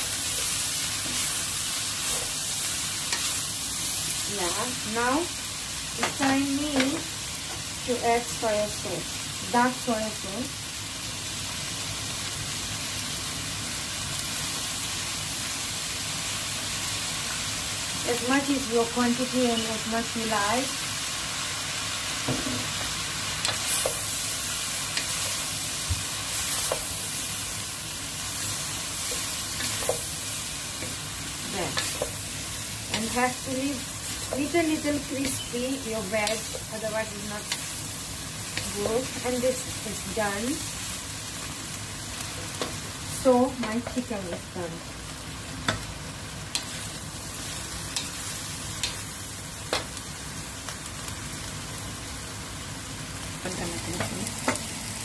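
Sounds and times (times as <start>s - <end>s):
noodles sizzling in a wok: 0.0s - 55.0s.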